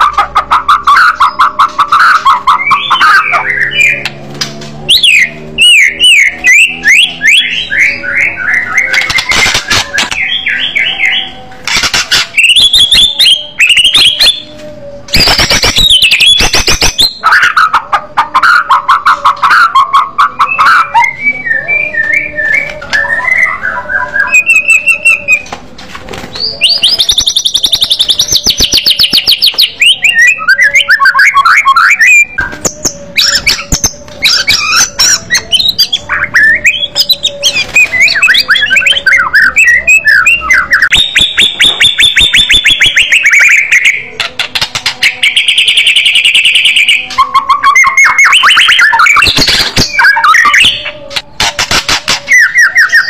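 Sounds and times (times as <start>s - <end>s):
songbird trills and sharp notes: 0.0s - 25.6s, 26.2s - 53.0s.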